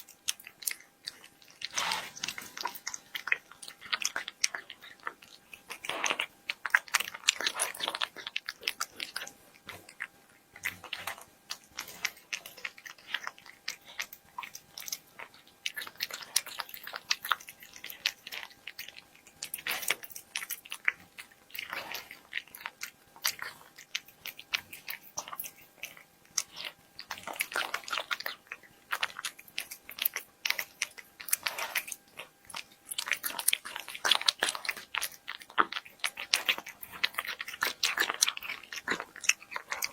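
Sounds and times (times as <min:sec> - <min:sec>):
cat crunching food: 0:00.0 - 0:39.9.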